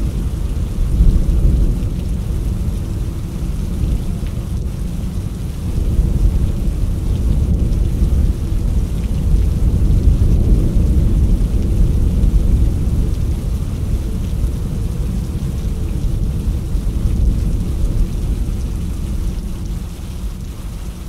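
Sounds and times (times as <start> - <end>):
rainstorm low rumble: 0.0 - 21.0.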